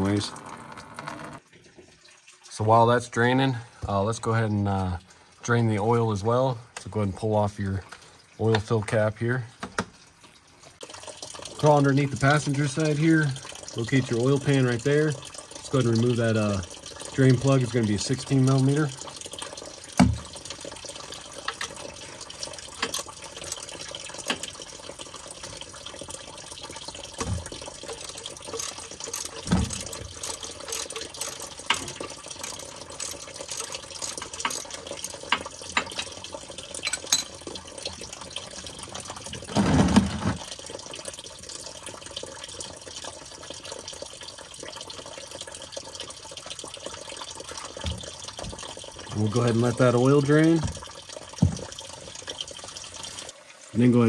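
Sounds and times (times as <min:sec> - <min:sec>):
oil pouring into a drain pan: 0:00.0 - 0:54.0.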